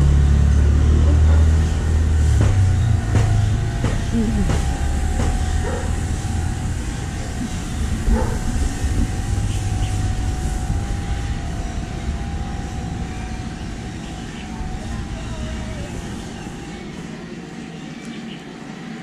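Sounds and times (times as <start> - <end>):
low vehicle engine rumble: 0.0 - 18.6
faint steady hum: 0.0 - 19.0.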